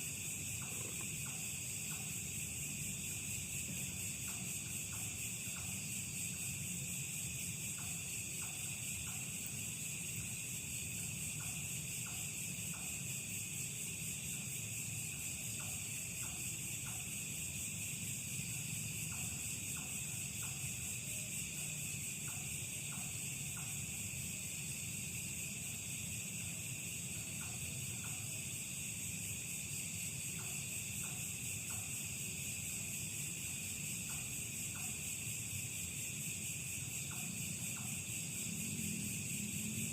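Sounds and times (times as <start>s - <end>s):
crickets shrilling: 0.0s - 39.9s.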